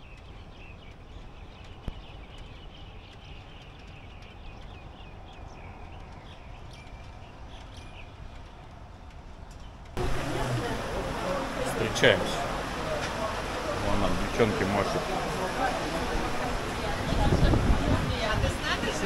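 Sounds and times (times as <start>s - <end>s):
low steady background noise: 0.0s - 19.0s
small birds chirping: 0.0s - 19.0s.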